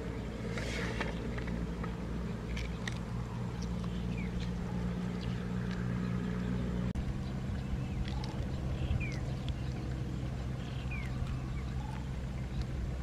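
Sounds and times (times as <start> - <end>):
low motor-like hum: 0.0 - 13.0
eggshell peeling crackles: 1.1 - 6.5, 7.4 - 13.0.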